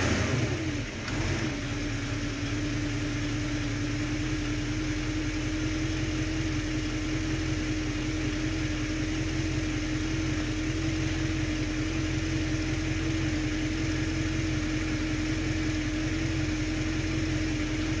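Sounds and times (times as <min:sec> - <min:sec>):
car engine idling roughly: 0:00.0 - 0:18.0.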